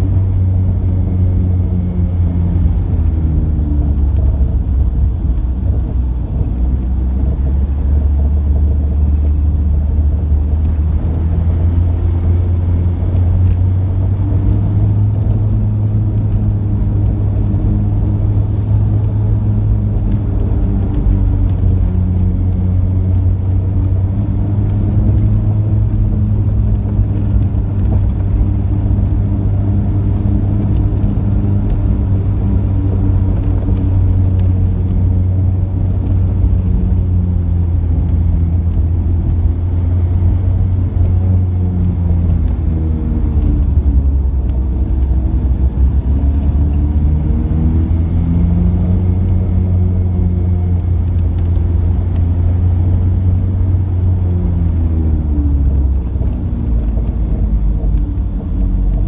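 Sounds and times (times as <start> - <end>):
tyres on road: 0.0 - 59.0
vehicle engine drone: 0.0 - 59.0.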